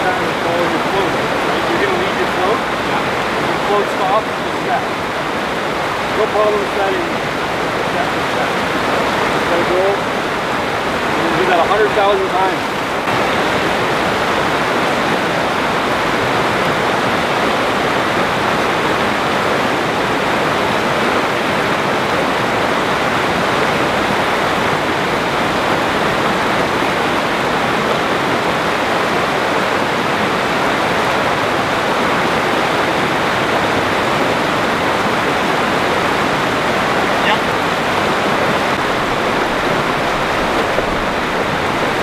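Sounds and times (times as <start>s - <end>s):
river water rushing over rocks: 0.0s - 42.0s.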